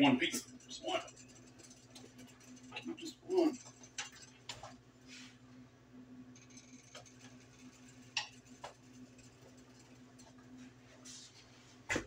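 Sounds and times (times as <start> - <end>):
boiling water: 0.0 - 11.3
low steady hum: 0.0 - 12.0.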